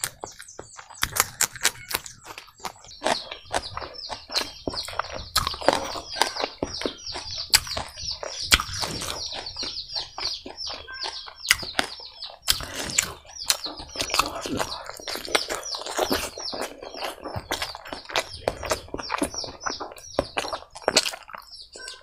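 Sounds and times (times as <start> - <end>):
wet mouth smacks and chewing: 0.0 - 21.9
birds chirping: 0.0 - 22.0.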